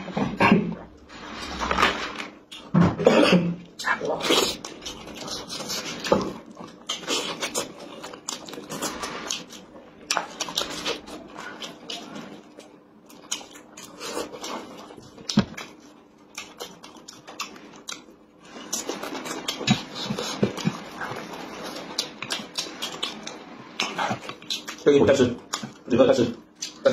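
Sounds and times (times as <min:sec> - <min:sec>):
biting and chewing food: 0:03.8 - 0:26.9.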